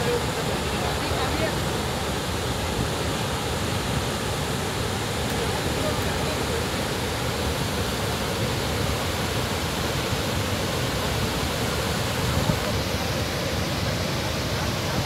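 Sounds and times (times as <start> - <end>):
water churning in pool: 0.0 - 15.0
waterfall rushing: 0.0 - 15.0.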